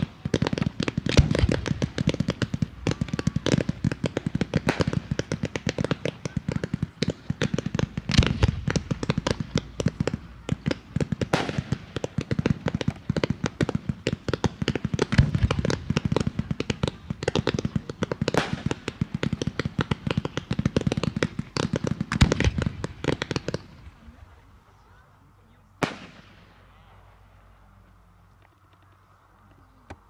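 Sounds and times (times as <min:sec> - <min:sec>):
fireworks bangs and pops: 0:00.0 - 0:24.4, 0:25.8 - 0:27.0.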